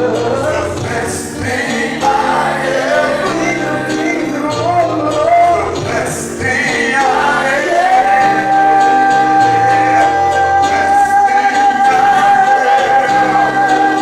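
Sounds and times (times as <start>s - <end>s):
bass notes: 0.0s - 14.0s.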